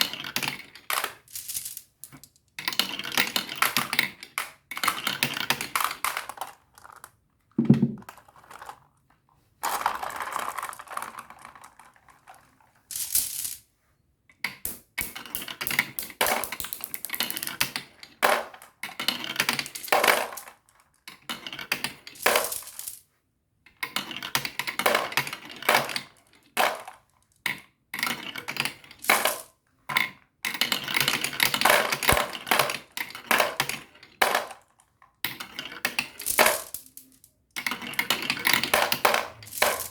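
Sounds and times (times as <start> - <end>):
marbles rolling down a track: 0.0 - 7.2, 7.8 - 8.9, 9.6 - 13.7, 14.5 - 23.1, 23.8 - 29.6, 30.4 - 39.9.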